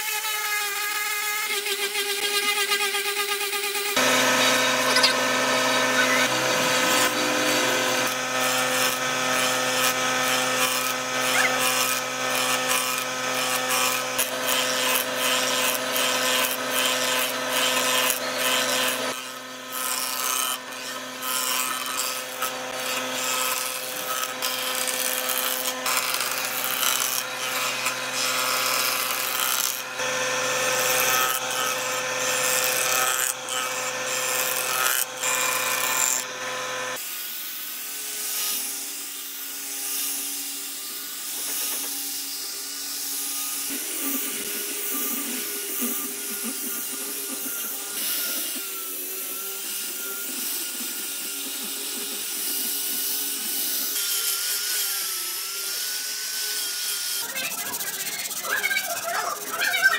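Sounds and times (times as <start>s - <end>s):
power tool sanding wood: 0.0s - 59.9s.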